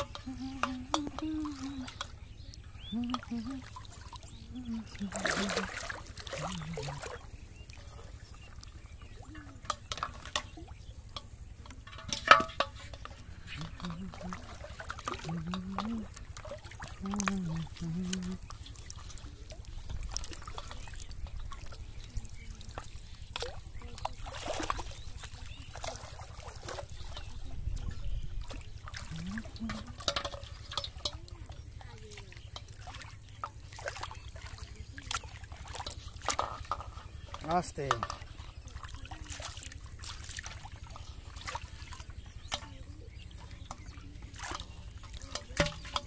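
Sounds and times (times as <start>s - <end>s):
water splashing and dripping: 0.0s - 46.0s.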